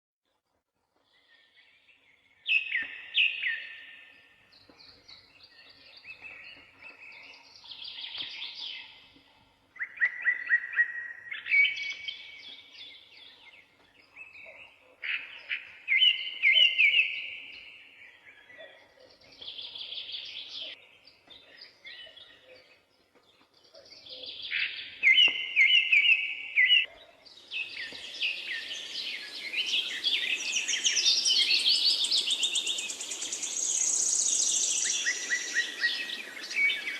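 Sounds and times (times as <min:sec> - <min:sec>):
songbirds chirping and trilling: 0:01.0 - 0:36.9.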